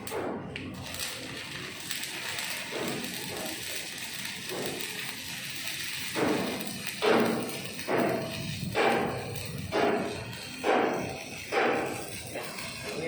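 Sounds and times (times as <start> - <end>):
arc welder crackling hiss: 0.0 - 13.0.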